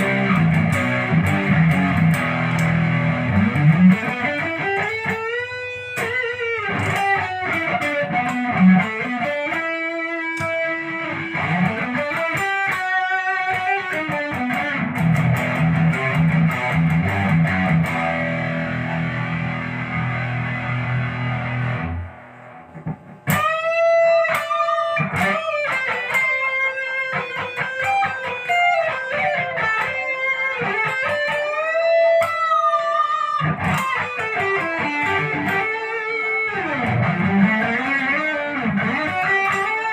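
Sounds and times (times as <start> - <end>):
electric guitar lead with bends: 0.0 - 39.9.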